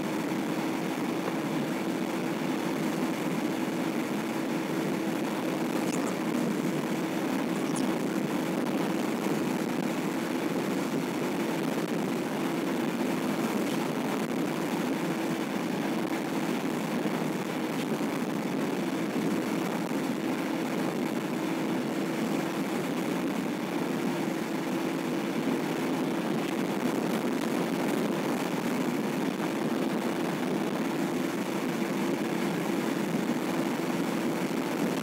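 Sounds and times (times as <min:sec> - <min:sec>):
car road and engine noise: 0:00.0 - 0:35.0.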